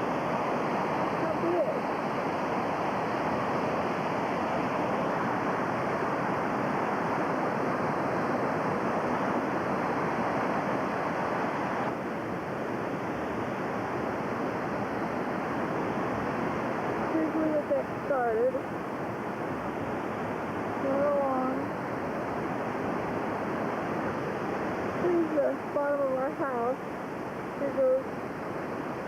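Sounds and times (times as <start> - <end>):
river rushing: 0.0 - 29.0.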